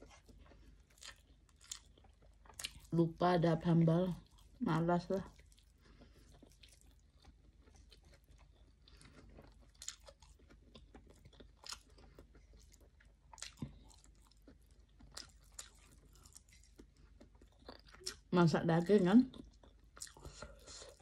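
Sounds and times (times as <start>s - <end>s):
person chewing quietly: 0.0s - 3.2s, 4.0s - 18.3s, 19.2s - 21.0s.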